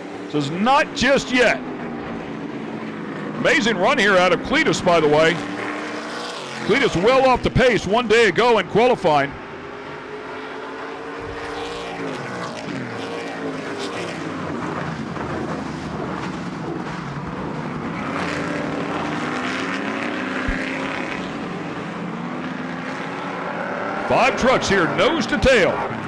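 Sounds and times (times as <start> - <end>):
race truck engines revving: 0.0 - 26.0.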